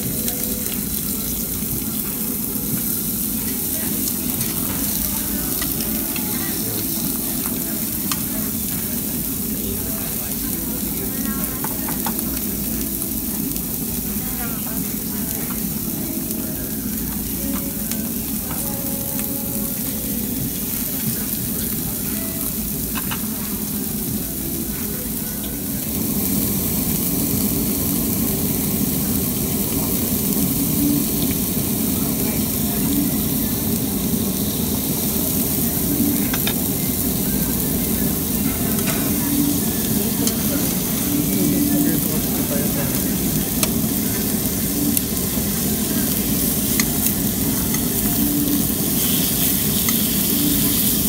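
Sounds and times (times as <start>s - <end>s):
pork sizzling on a grill: 0.0s - 51.0s.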